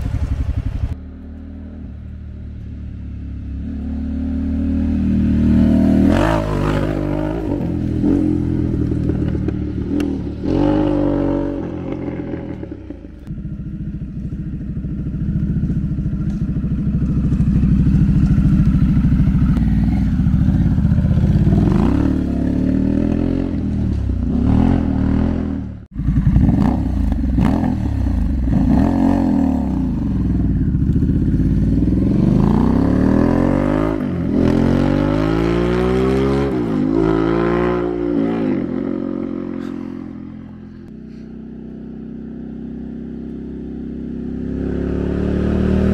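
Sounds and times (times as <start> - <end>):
motorcycle revving past: 2.8 - 14.0, 14.6 - 45.9.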